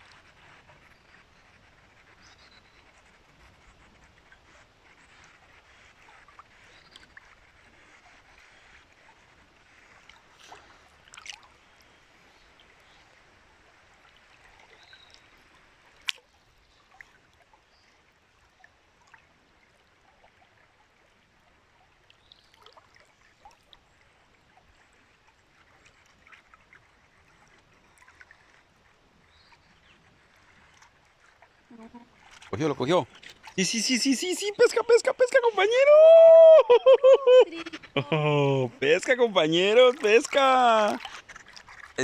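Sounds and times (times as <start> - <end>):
small ticks and splashes: 0.0 - 35.4, 38.8 - 42.0
river water running: 0.0 - 42.0.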